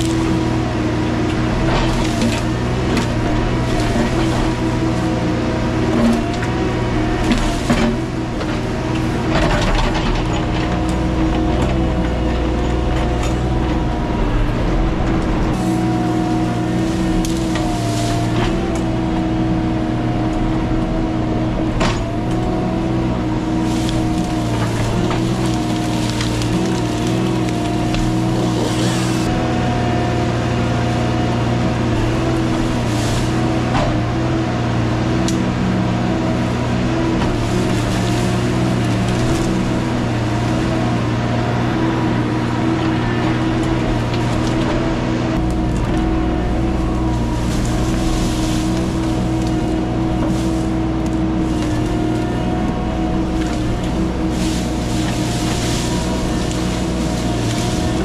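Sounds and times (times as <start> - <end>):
motor engine running: 0.0 - 58.0.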